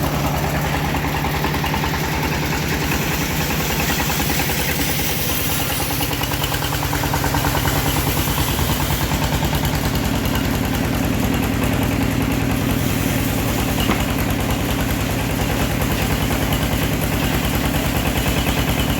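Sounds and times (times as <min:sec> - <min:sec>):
sawmill engine pulsing: 0:00.0 - 0:18.9.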